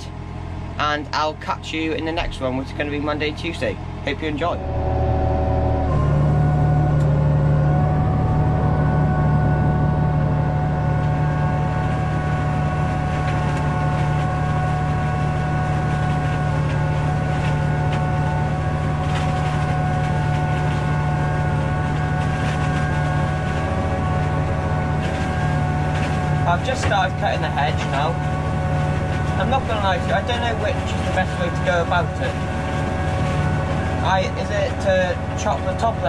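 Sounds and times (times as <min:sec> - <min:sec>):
steady whine: 0:00.0 - 0:36.0
tractor engine hum: 0:00.0 - 0:36.0.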